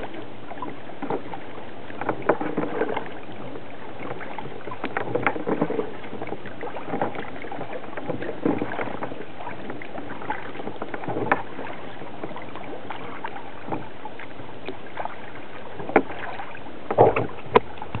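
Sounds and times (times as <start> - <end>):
paddle splashing in water: 0.0 - 18.0.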